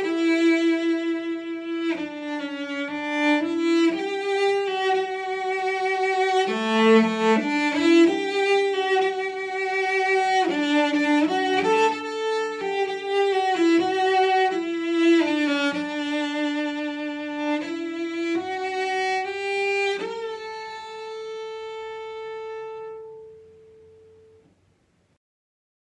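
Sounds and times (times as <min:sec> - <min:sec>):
solo cello melody: 0:00.0 - 0:24.5.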